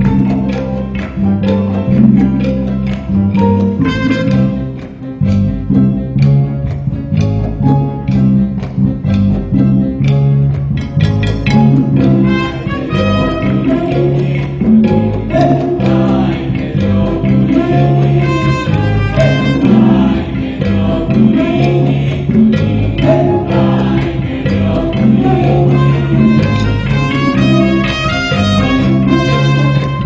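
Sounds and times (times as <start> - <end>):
bass: 0.0 - 30.0
guitar: 0.0 - 30.0.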